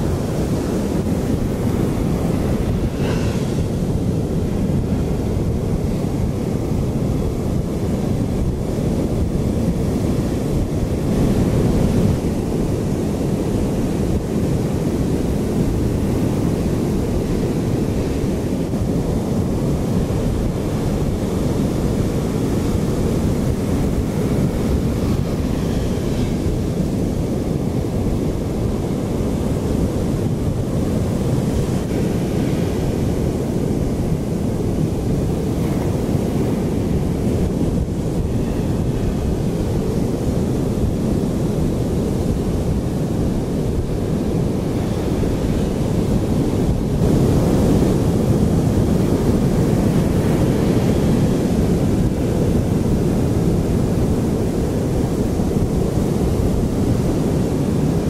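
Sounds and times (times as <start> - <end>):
surf breaking on a beach: 0.0 - 58.0
wind on microphone: 0.0 - 58.0.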